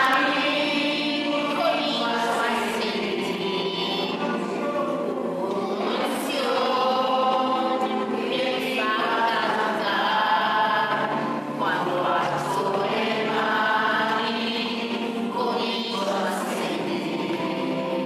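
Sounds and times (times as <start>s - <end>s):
crowd singing a religious song: 0.0s - 18.0s.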